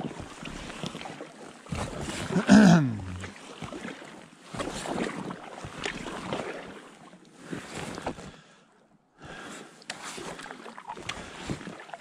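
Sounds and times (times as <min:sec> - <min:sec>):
paddle strokes splashing: 0:00.0 - 0:02.5, 0:03.1 - 0:08.4, 0:09.3 - 0:12.0
water washing around a raft: 0:00.0 - 0:08.7, 0:09.4 - 0:12.0.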